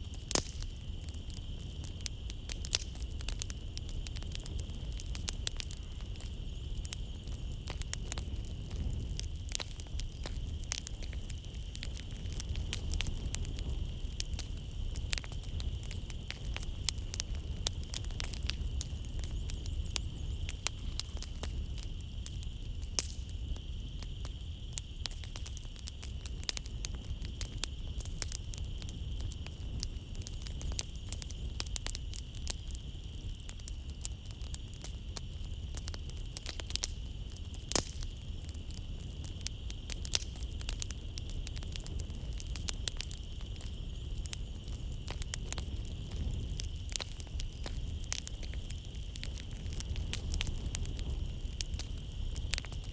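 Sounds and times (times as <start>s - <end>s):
night insects chirring: 0.0s - 52.9s
wood fire crackling: 0.0s - 52.9s.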